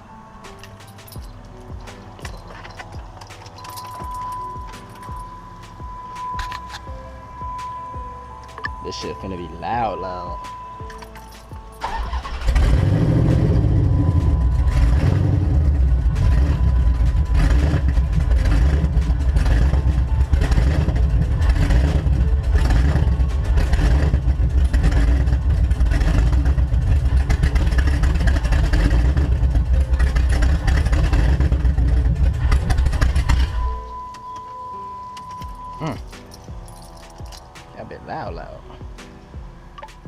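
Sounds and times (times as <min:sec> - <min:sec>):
car engine starting and running: 0:00.0 - 0:37.5.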